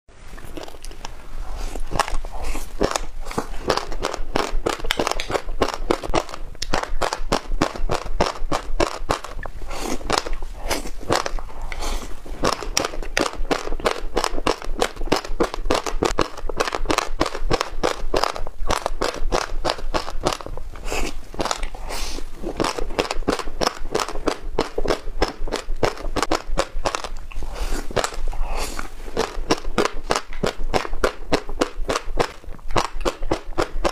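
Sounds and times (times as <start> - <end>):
crunchy chewing: 0.3 - 33.9.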